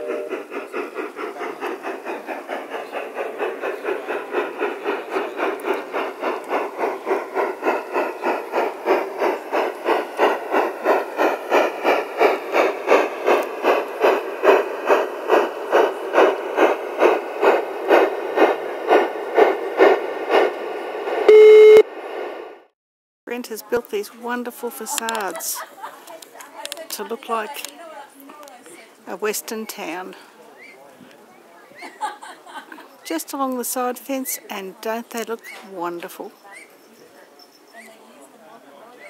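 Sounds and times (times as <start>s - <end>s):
model steam locomotive chuffing: 0.0s - 21.3s, 23.3s - 39.0s.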